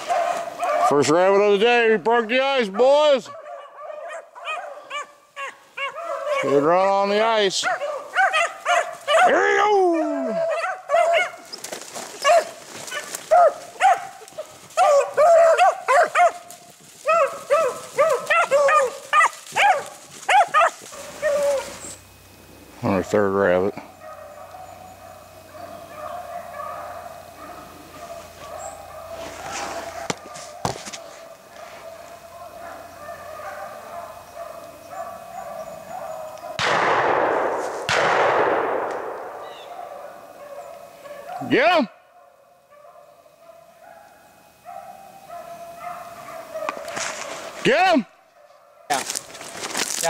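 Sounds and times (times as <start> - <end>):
pack of dogs baying: 0.0 - 36.7, 39.1 - 49.7.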